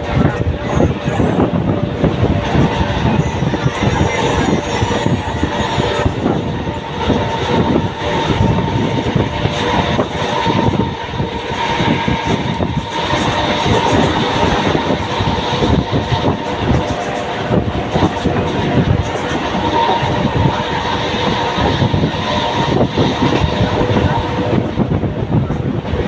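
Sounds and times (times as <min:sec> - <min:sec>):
steady train whine: 0:00.0 - 0:26.0
train wheels clattering over rails: 0:00.0 - 0:26.0.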